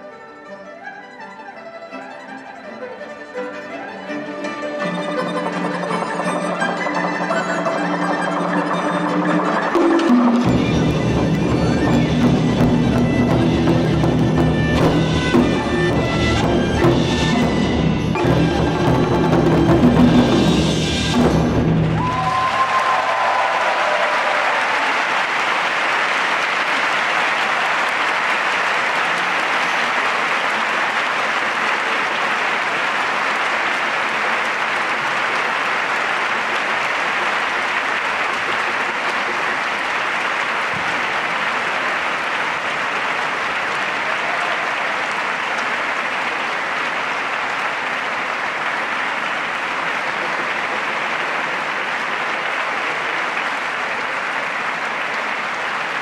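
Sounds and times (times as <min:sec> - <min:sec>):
audience applauding: 0:00.0 - 0:56.0.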